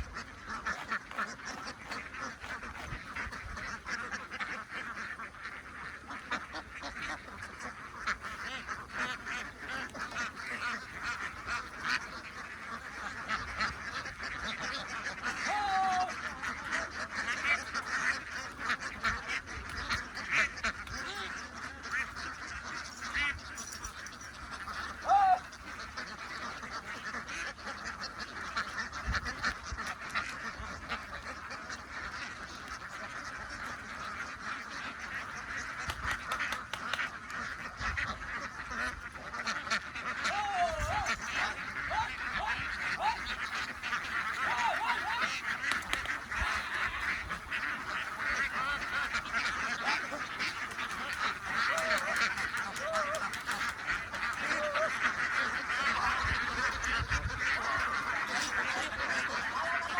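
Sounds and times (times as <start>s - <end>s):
flock of ducks quacking: 0.0s - 59.9s
loud single duck calls: 0.0s - 59.9s.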